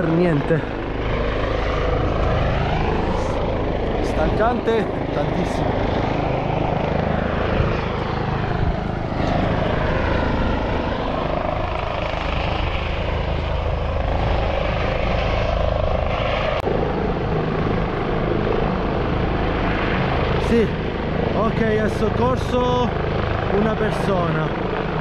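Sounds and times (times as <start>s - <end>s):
helicopter rotor and engine: 0.0s - 25.0s.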